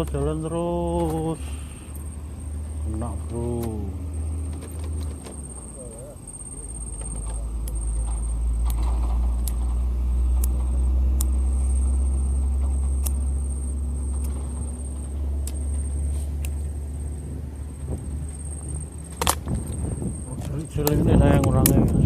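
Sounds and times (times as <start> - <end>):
passing vehicle engine rumble: 0.0 - 22.0.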